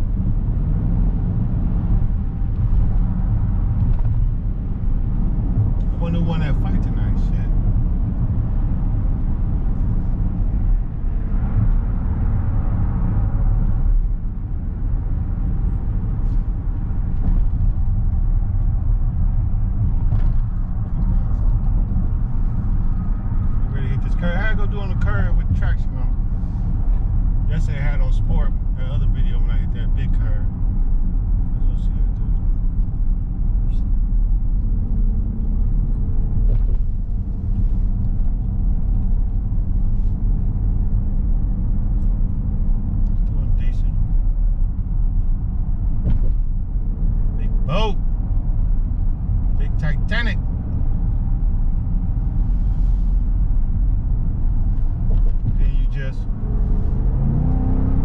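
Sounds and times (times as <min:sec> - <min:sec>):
car engine cruising: 0:00.0 - 0:58.0
road noise: 0:00.0 - 0:58.0.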